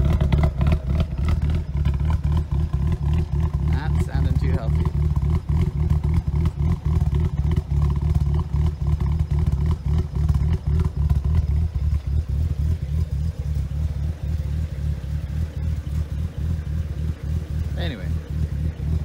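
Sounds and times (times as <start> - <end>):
car engine idling roughly: 0.0 - 19.0.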